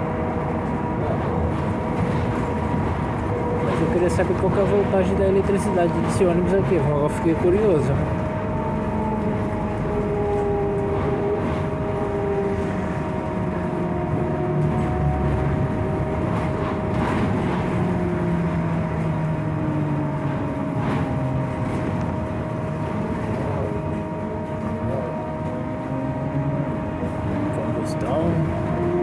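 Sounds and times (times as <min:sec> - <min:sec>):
trolleybus running rumble: 0:00.0 - 0:29.0.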